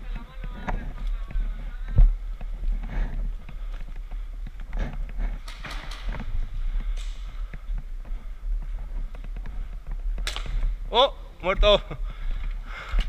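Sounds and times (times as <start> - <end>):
knocks and rustles of movement: 0.0 - 13.0.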